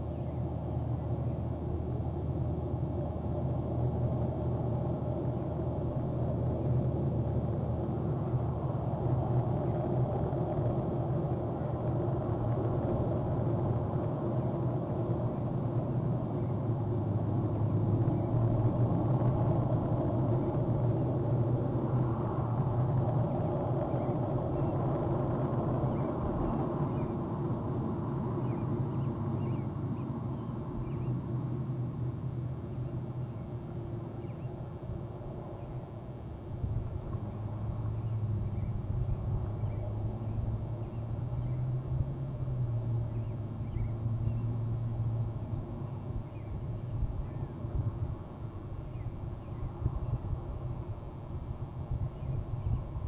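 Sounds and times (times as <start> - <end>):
low shoreline rumble: 0.0 - 53.0.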